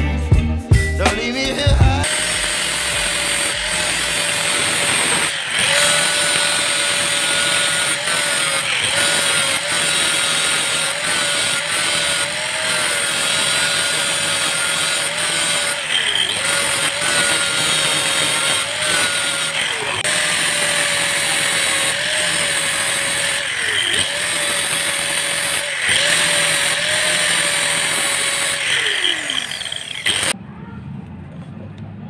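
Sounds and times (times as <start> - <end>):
angle grinder grinding metal: 2.0 - 30.4.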